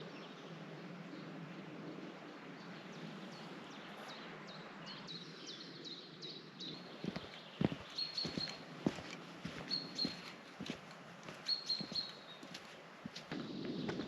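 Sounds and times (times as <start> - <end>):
outdoor ambience hiss: 0.0 - 14.0
small bird singing: 2.5 - 14.0.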